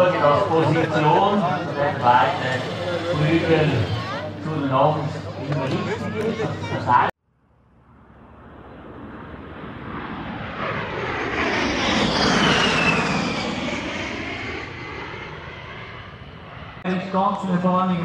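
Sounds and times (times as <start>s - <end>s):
jet aircraft passing by: 0.0s - 18.0s.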